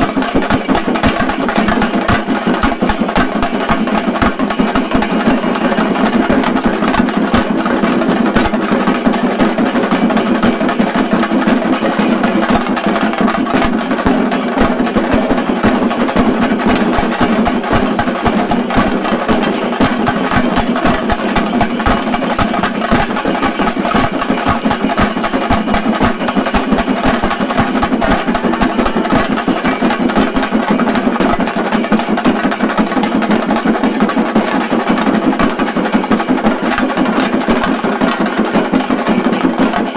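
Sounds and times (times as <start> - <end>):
fast loud drum rolls: 0.0 - 39.9.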